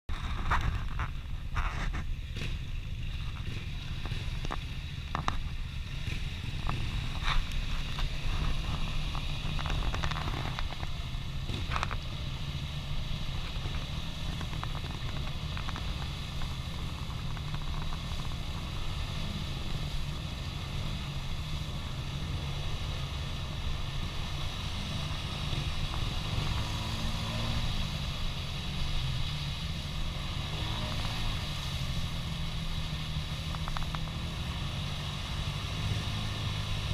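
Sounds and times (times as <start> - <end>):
atv engines running: 0.1 - 36.9.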